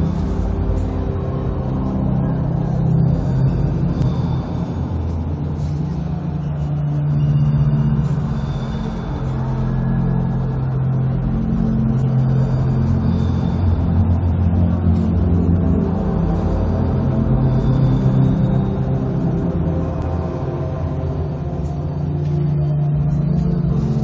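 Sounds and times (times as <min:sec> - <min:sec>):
deep rumbling ambient drone: 0:00.0 - 0:24.0.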